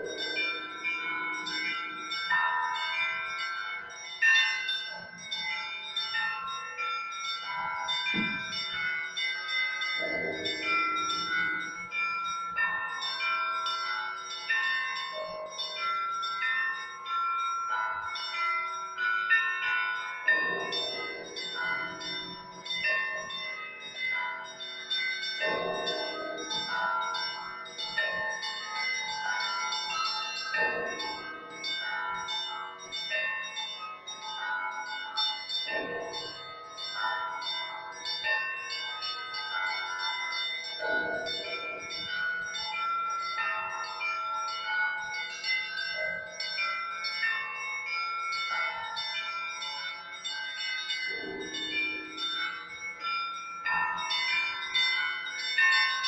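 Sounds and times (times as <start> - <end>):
middle bells ringing: 0.0 - 56.0
small bells ringing quickly: 0.0 - 56.0.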